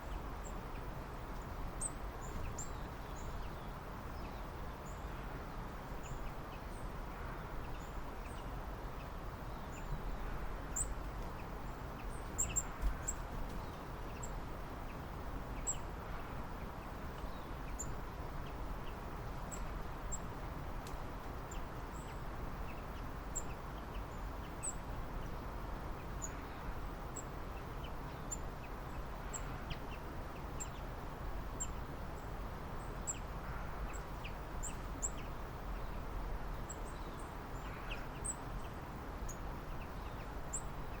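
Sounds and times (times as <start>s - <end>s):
outdoor ambience hiss: 0.0s - 41.0s
small birds chirping: 0.0s - 41.0s.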